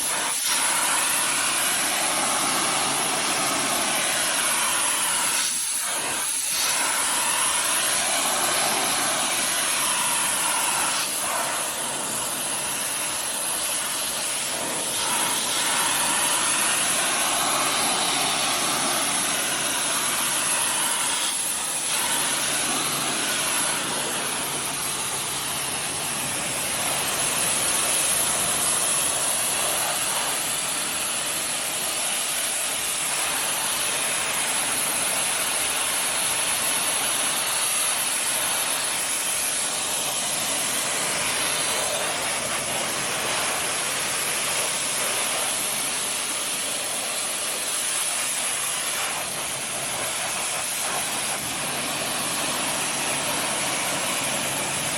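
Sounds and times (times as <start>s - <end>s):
pressure washer spraying: 0.0s - 54.9s.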